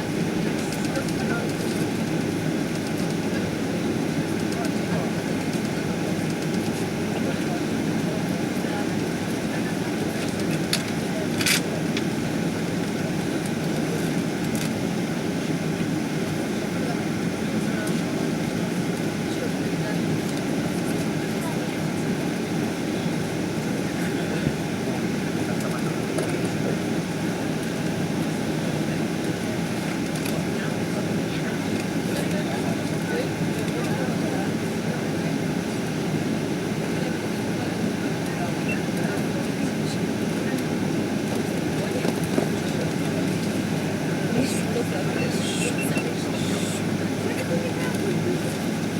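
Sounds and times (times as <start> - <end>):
jet engine cabin rumble: 0.0 - 48.9.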